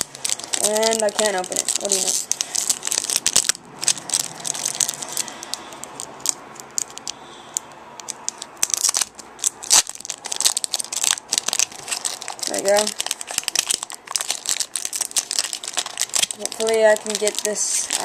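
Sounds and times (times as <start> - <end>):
foil wrapper crinkling and tearing: 0.0 - 7.2, 8.0 - 18.0.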